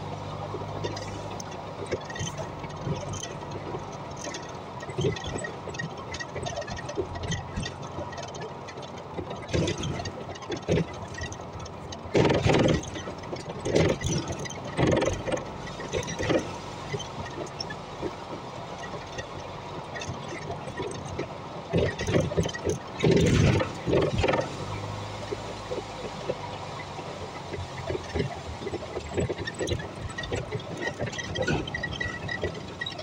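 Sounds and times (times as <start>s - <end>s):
bus running noise: 0.0s - 33.0s
knocks and rattles: 0.8s - 33.0s.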